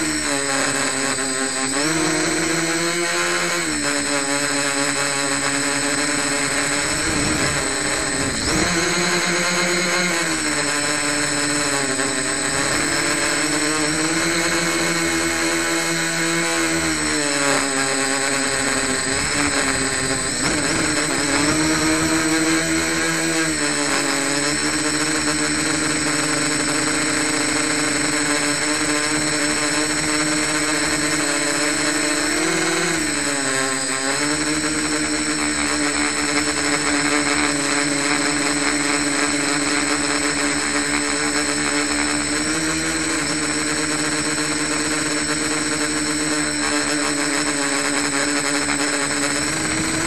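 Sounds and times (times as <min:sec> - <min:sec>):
high-pitched whine: 0:00.0 - 0:50.0
quadcopter propellers buzzing: 0:00.0 - 0:50.0.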